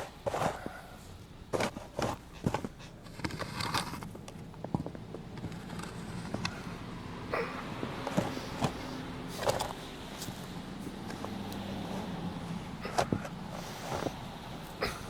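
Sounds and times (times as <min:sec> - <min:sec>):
footsteps crunching in snow: 0:00.0 - 0:06.7, 0:07.8 - 0:14.8.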